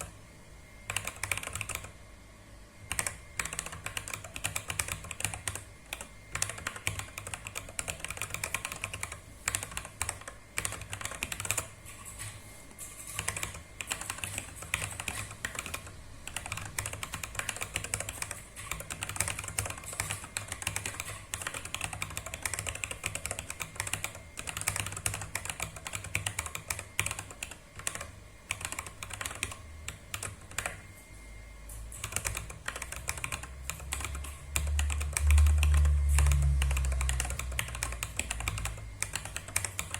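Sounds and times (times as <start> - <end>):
mechanical keyboard typing: 0.9 - 2.0, 2.9 - 30.8, 31.9 - 39.9.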